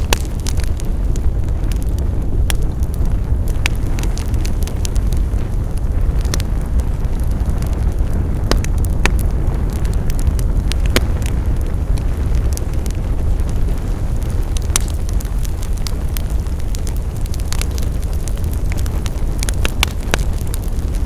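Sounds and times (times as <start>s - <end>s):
fire low rumble: 0.0s - 21.0s
wood crackling and popping: 0.0s - 21.0s.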